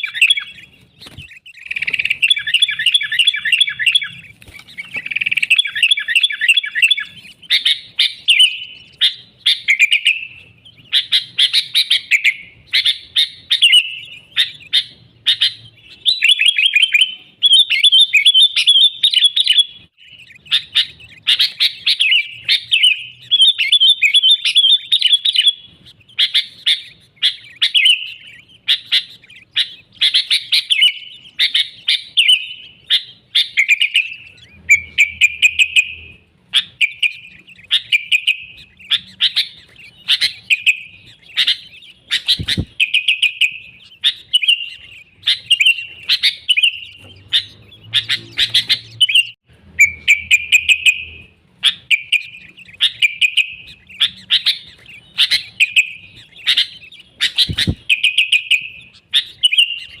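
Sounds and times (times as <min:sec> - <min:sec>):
bird chirping phrases: 0:00.0 - 1:00.0.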